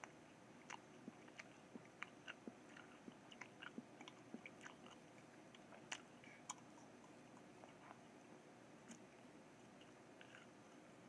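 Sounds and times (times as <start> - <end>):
chewing paper with wet clicks: 0.0 - 10.8.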